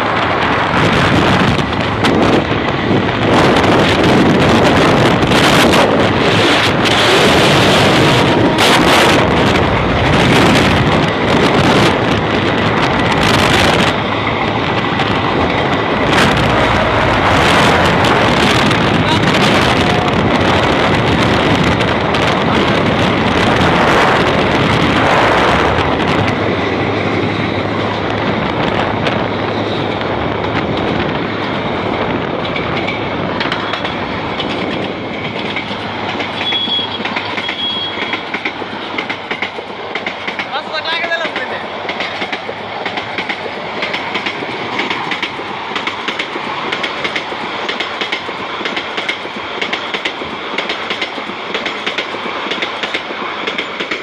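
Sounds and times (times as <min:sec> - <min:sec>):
passenger train running: 0:00.0 - 0:54.0
wind buffeting microphone: 0:00.0 - 0:54.0.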